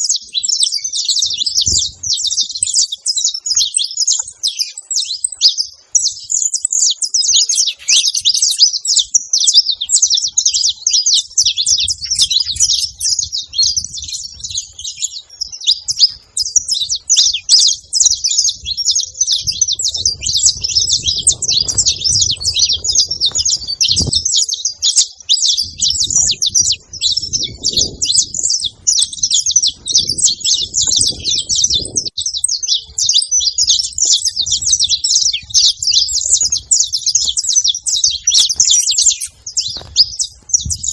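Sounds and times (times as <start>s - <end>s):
finch singing high chirps: 0.0s - 40.9s.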